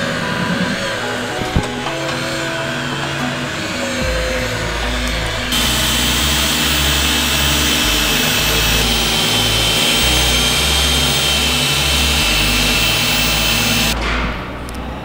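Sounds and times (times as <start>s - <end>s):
electric polisher whining: 0.0s - 14.0s.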